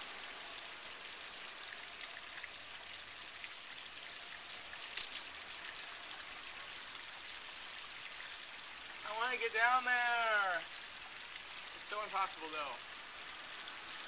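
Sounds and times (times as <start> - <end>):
creek running water: 0.0 - 14.0.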